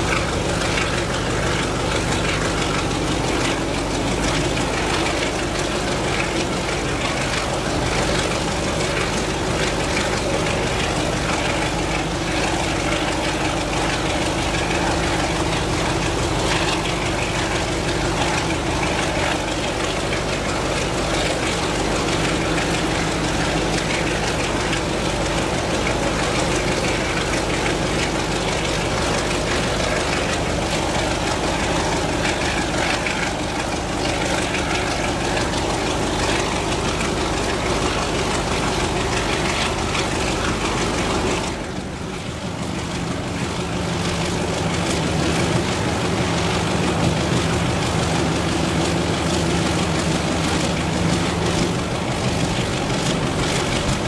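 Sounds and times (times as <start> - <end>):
diesel locomotive engine: 0.0 - 54.0
wheel and rail noise: 0.0 - 54.0.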